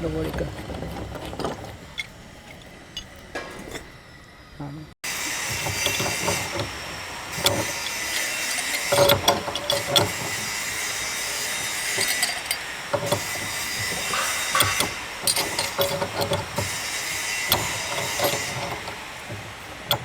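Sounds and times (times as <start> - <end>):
clinks and knocks of hand work: 0.0 - 4.0, 5.2 - 20.0.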